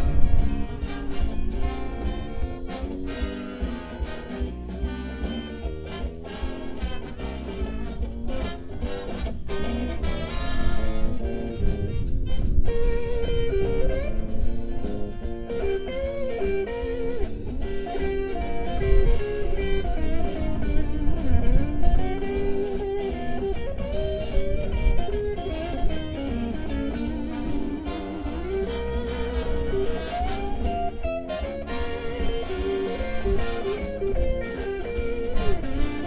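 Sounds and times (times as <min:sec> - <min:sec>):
bass guitar: 0:00.0 - 0:36.0
drums: 0:00.0 - 0:36.0
electric guitar blues lead: 0:00.0 - 0:36.0.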